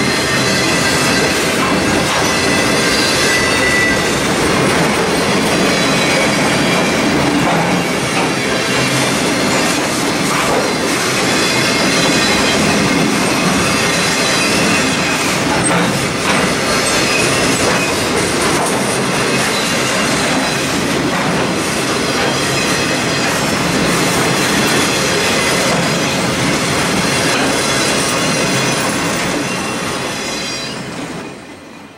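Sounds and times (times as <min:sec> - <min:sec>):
train wheels clattering on rails: 0:00.0 - 0:31.9.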